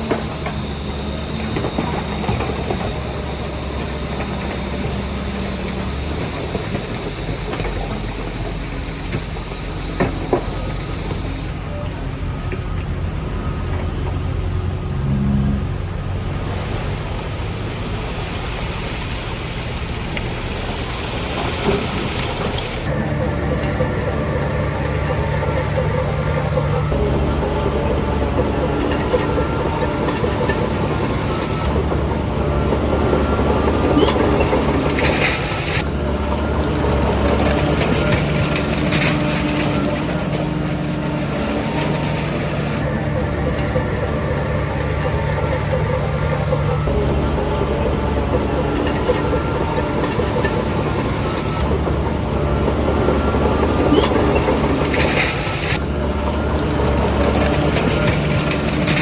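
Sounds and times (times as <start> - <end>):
bulldozer diesel engine running: 0.0 - 59.0
steel tracks rattling: 0.0 - 59.0.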